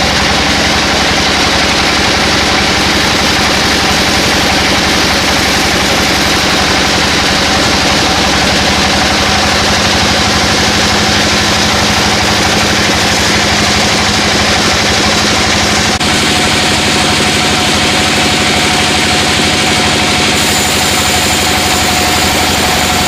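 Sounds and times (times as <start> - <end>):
sawmill machinery engine drone: 0.0 - 23.0.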